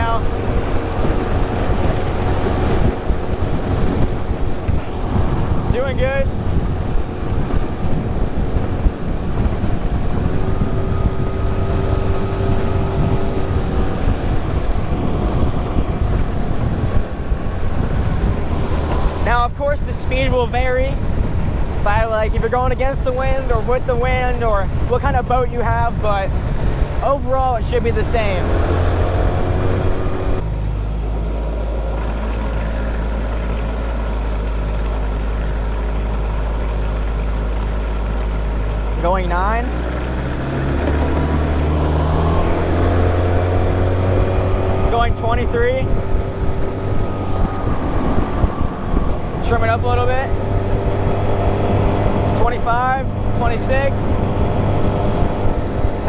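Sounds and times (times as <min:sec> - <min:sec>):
outboard motor running: 0:00.0 - 0:56.0
water rushing past hull: 0:00.0 - 0:56.0
wind buffeting microphone: 0:00.0 - 0:56.0.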